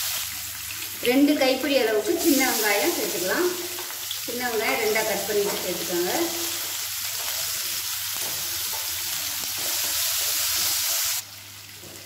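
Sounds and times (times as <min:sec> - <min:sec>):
shallots sizzling in oil: 0:00.0 - 0:12.0.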